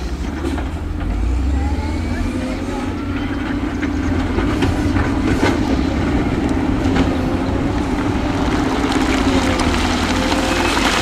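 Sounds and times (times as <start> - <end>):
heavy diesel machine engine running: 0.0 - 11.0.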